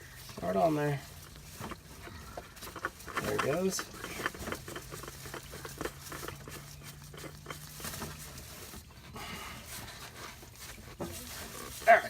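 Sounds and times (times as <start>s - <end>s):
oil filter clicking and scraping: 0.0s - 12.0s.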